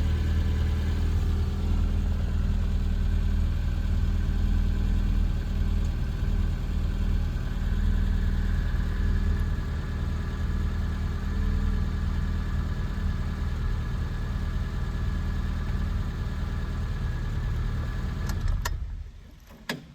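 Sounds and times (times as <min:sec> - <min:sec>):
car engine idling: 0:00.0 - 0:19.2.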